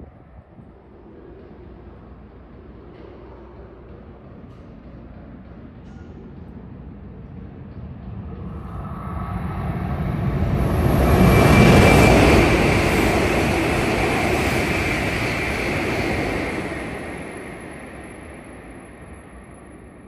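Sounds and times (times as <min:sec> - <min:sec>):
high-speed train rushing past: 0:00.0 - 0:20.0.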